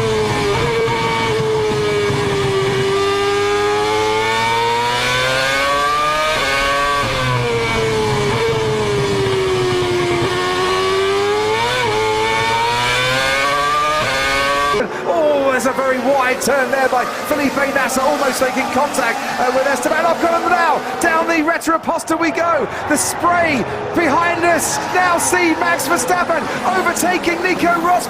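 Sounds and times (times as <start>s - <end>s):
racing car engine at high revs: 0.0s - 28.0s.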